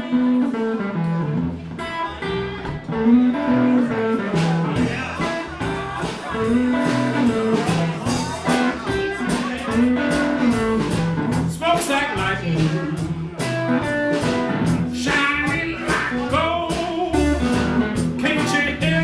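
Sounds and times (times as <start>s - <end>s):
guitar playing blues riff: 0.0s - 19.0s.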